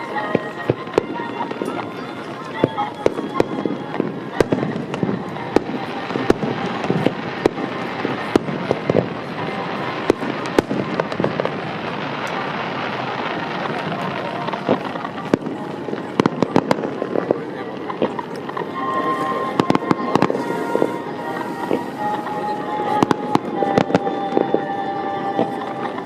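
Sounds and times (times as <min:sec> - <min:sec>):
dense crackle of small bursts: 0:00.0 - 0:26.0
fireworks shells bursting with bangs: 0:00.0 - 0:26.0.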